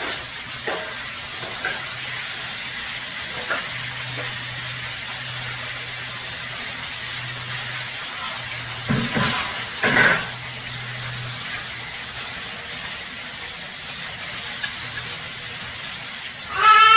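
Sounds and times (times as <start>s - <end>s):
food sizzling in a pan: 0.0s - 16.9s.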